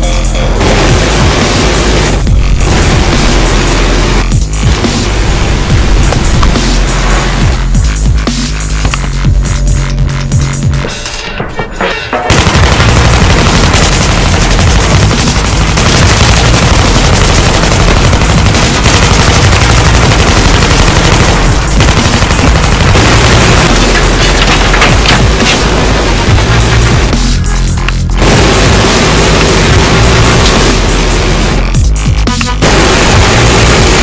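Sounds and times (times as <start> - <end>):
dubstep music: 0.0 - 34.0
rapid automatic gunfire: 0.6 - 7.6, 12.3 - 27.6, 28.2 - 31.8, 32.6 - 34.0.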